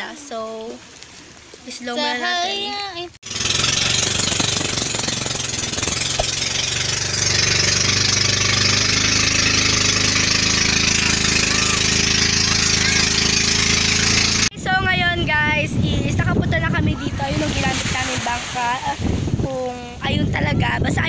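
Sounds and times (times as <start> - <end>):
water splashing along hull: 0.0 - 2.0, 2.8 - 14.5, 16.2 - 19.7
boat engine running: 3.2 - 21.0.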